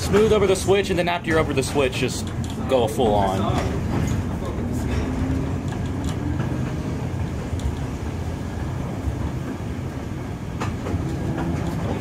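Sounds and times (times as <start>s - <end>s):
streetcar wheels rumbling: 0.0s - 12.0s.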